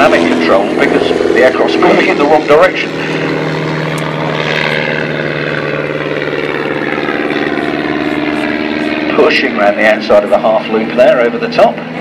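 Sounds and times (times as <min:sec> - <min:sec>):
biplane engine and propeller running: 0:00.0 - 0:12.0.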